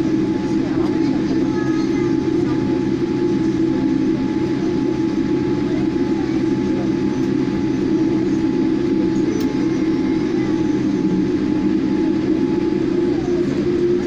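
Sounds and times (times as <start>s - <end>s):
airliner engines low rumble: 0.0s - 14.0s
thin steady whine: 0.0s - 14.0s.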